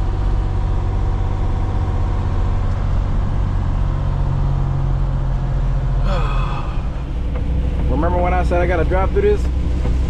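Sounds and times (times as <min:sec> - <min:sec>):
road noise: 0:00.0 - 0:10.0
truck diesel engine drone: 0:00.0 - 0:10.0.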